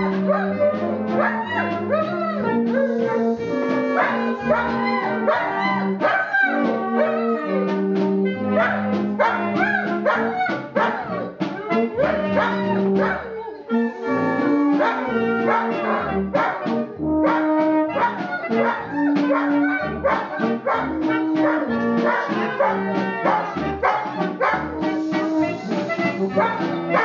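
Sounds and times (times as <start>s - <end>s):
brass band playing held notes: 0.0s - 27.0s
dog howling: 0.0s - 27.0s.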